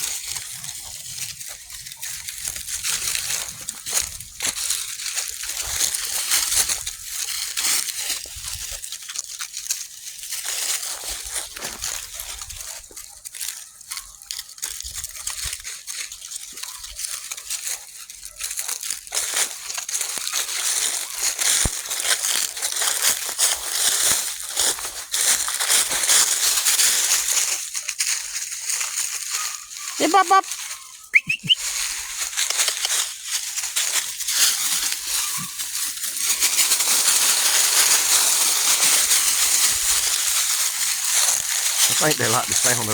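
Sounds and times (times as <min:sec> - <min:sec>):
dry leaves crunching and rustling: 0:00.0 - 0:42.9.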